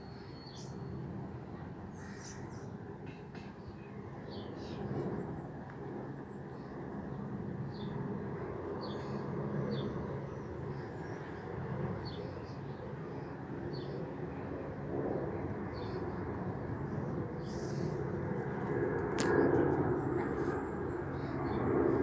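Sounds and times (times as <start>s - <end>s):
jet engines rumbling overhead: 0.0s - 22.0s.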